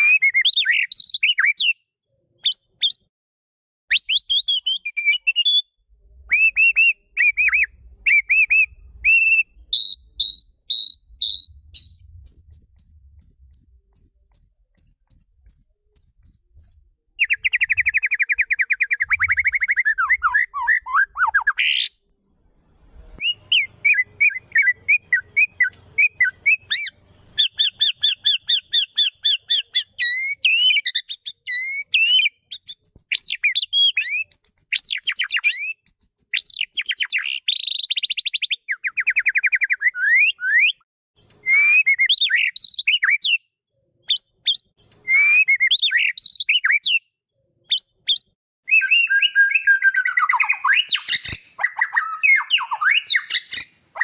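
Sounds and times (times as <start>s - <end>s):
songbird singing: 0.0s - 3.1s, 3.9s - 43.4s, 47.7s - 54.0s.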